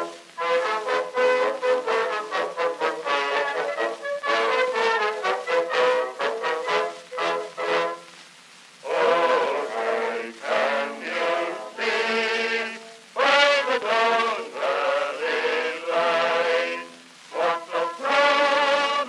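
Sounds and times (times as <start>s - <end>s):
brass band playing slow melody: 0.0s - 8.2s, 8.9s - 19.0s.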